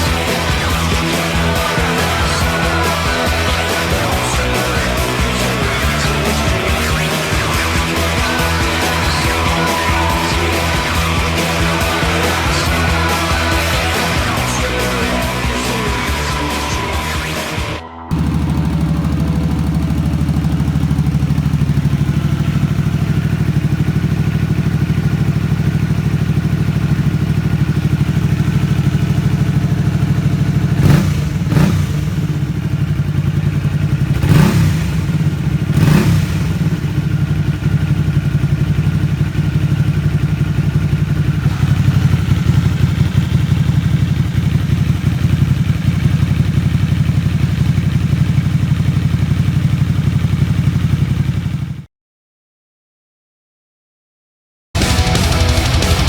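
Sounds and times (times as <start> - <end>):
short sharp engine bursts: 0.0 - 47.8, 54.8 - 56.0
motorcycle engine running: 0.0 - 51.9, 54.8 - 56.0.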